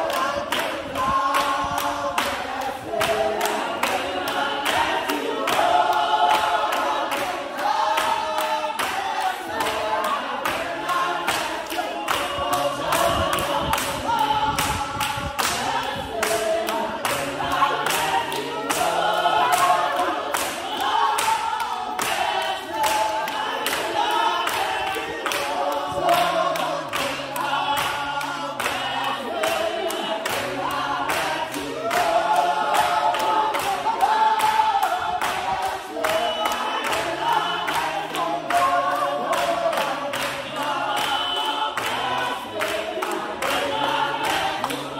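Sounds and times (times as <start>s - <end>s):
congregation singing: 0.0s - 44.9s.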